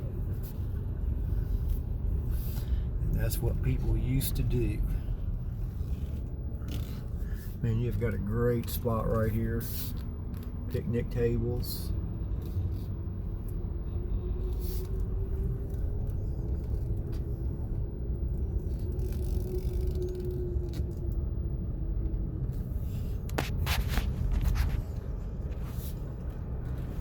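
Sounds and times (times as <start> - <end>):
road and engine rumble in car: 0.0 - 27.0.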